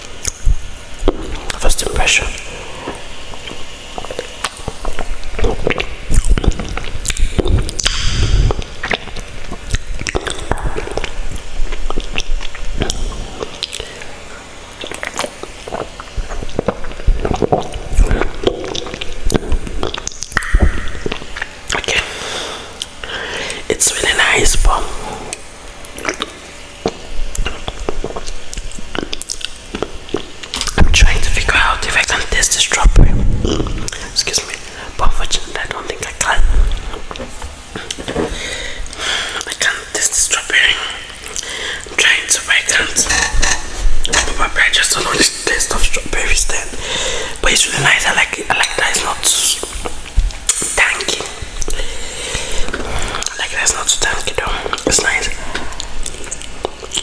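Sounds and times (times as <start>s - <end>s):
mouth chewing noodles: 0.0s - 57.0s.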